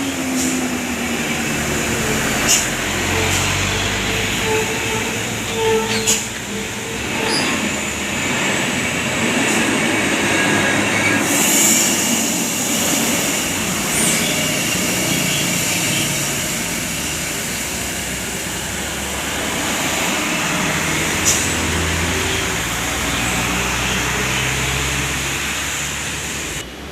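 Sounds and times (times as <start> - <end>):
trucks and buses passing: 0.0 - 26.9.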